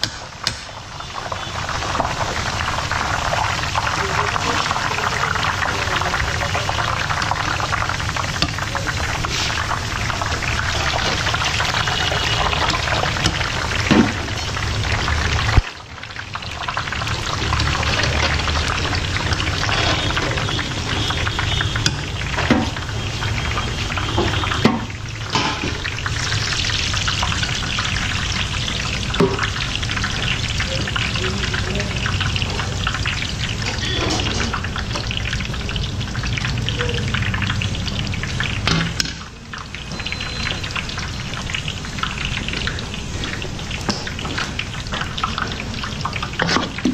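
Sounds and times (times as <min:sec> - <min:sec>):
batter sizzling in hot oil: 0:00.0 - 0:46.9.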